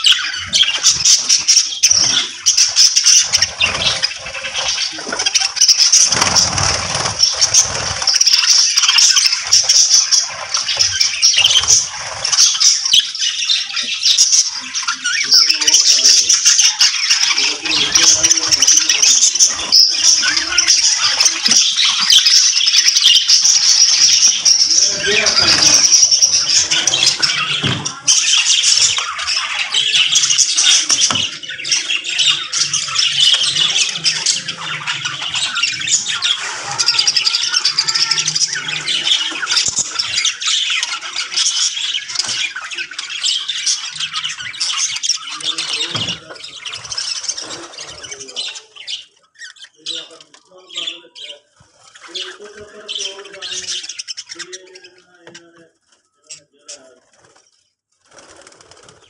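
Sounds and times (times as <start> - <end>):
budgerigars chattering: 0.0 - 57.5.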